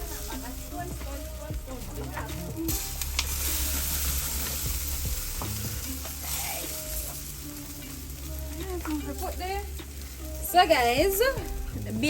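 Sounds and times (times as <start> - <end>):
chicken sizzling on a grill: 0.0 - 12.0.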